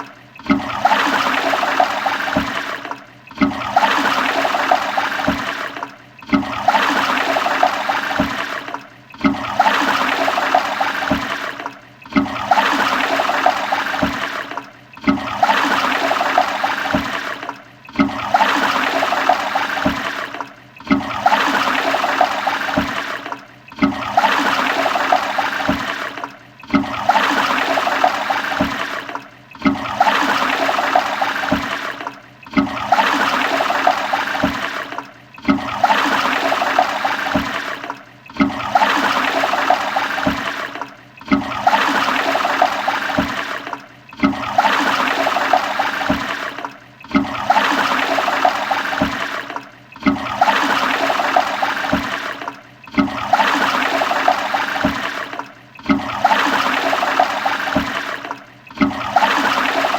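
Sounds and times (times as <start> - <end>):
toilet flushing: 0.0 - 59.9.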